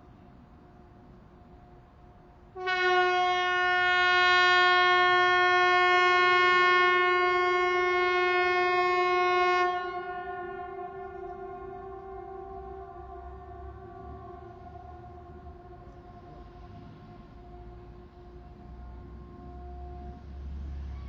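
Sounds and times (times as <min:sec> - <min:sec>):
air raid siren: 0:02.5 - 0:21.0.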